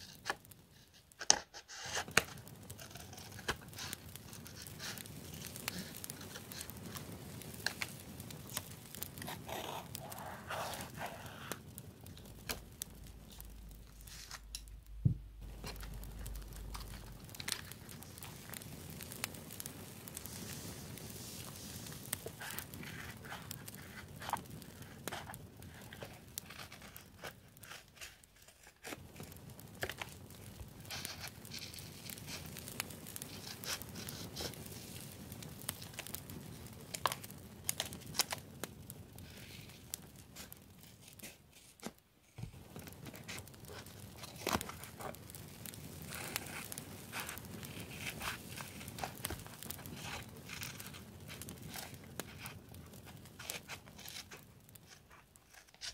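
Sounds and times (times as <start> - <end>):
paper rustling and crinkling: 0.0 - 14.7, 15.4 - 38.5, 39.2 - 55.9.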